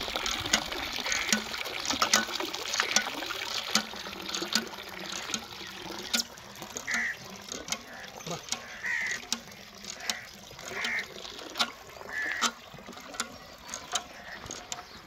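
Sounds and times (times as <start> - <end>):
goat drinking: 0.0 - 15.0
water splashing into a tub: 0.0 - 15.0.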